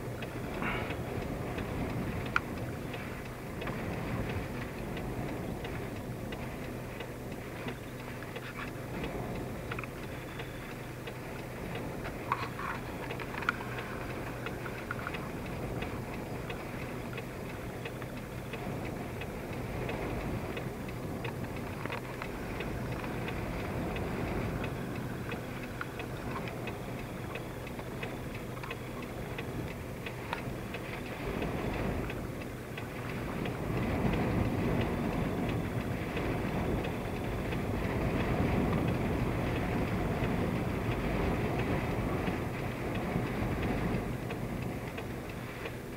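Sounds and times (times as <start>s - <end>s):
faint ticks: 0.0s - 45.9s
low hum: 0.0s - 45.9s
vehicle rumble from inside cab: 0.0s - 45.9s
sharp clicks: 0.1s - 45.8s.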